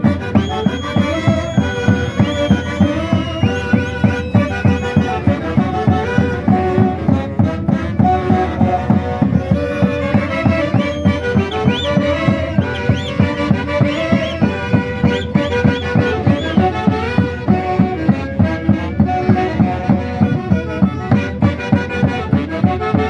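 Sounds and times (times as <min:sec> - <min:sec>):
festival band music with winds: 0:00.0 - 0:23.0.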